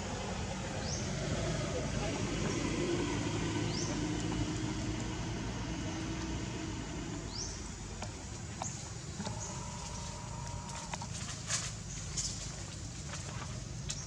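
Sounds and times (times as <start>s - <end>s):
outdoor rumble and hum: 0.0s - 14.0s.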